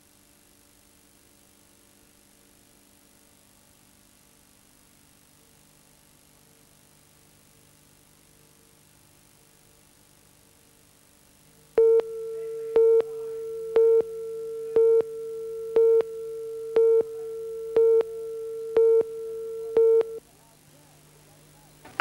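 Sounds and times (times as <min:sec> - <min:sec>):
faint hum: 0:00.1 - 0:22.0.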